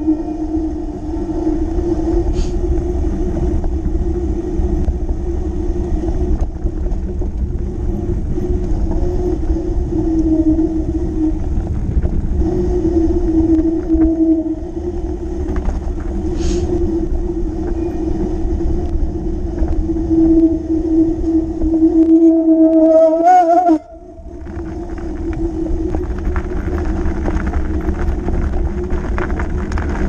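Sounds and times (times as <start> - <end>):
bike rolling over grass: 0.0 - 20.4, 24.0 - 30.0
steady low hum: 0.0 - 30.0
wind rumbling on microphone: 0.0 - 30.0.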